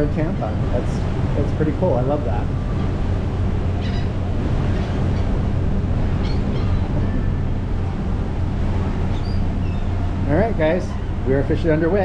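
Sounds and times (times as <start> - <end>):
rushing wind and water: 0.0 - 12.0
ship machinery humming: 0.0 - 12.0.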